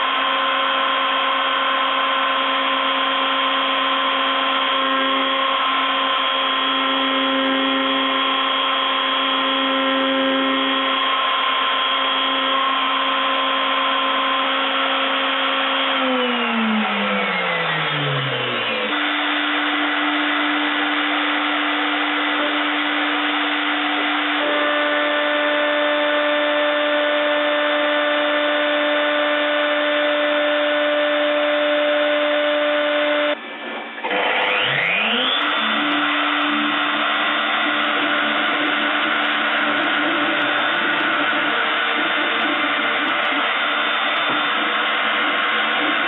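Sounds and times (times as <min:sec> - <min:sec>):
milling machine spindle whine: 0:00.0 - 0:46.0
motor spinning up: 0:00.0 - 0:46.0.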